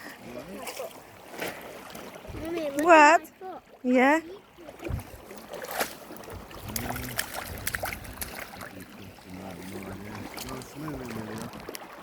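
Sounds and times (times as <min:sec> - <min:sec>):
shallow water splashing: 0:00.0 - 0:12.0.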